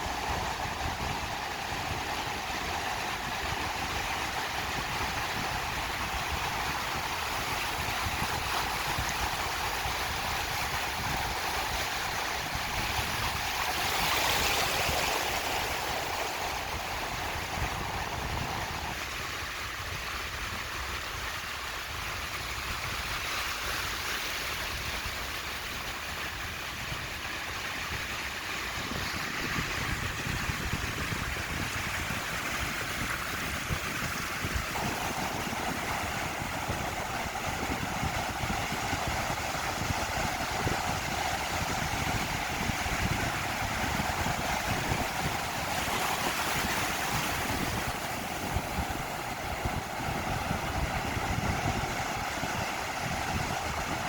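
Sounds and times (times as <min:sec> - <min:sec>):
ocean surf on a beach: 0:00.0 - 0:54.0.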